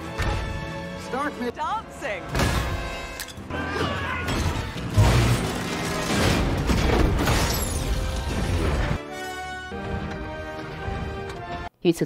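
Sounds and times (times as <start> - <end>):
orchestral film score: 0.0 - 11.7.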